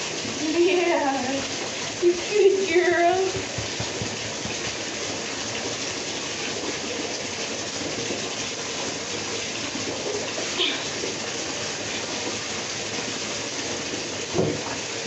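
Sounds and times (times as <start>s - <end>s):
bathtub tap running: 0.0s - 11.3s, 12.1s - 15.0s.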